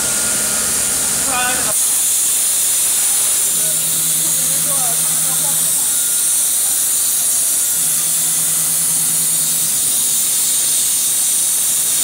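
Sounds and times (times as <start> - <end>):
plasma torch hissing: 0.6 - 12.0.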